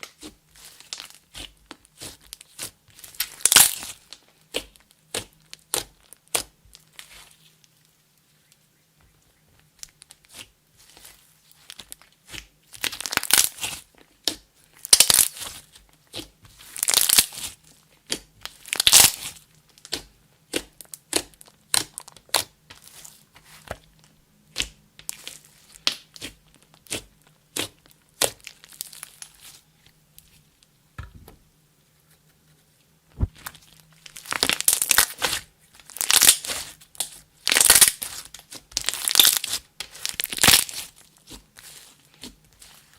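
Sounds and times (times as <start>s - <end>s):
slime crackling and squelching: 0.0s - 7.8s, 9.6s - 29.6s, 33.2s - 42.9s.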